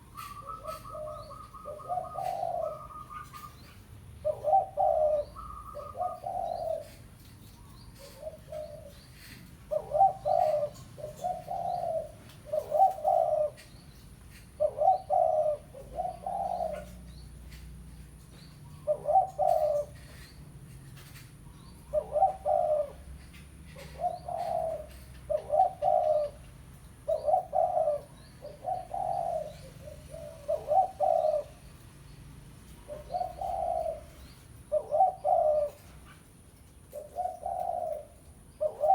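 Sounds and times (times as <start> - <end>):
dove cooing: 0.0 - 20.4, 21.0 - 31.8, 32.7 - 38.9.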